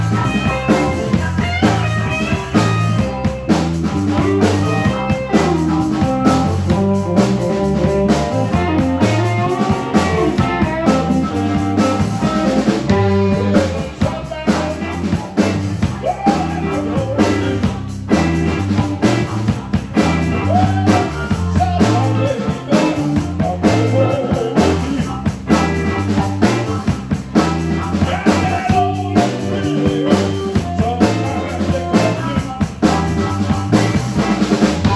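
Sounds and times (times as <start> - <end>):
bending guitar melody: 0.0 - 34.9
live rock band playing: 0.0 - 34.9.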